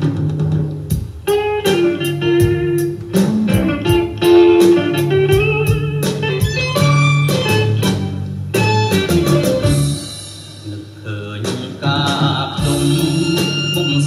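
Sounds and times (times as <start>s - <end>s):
blues guitar music: 0.0s - 11.0s, 11.6s - 14.0s
drum beat: 0.0s - 14.0s.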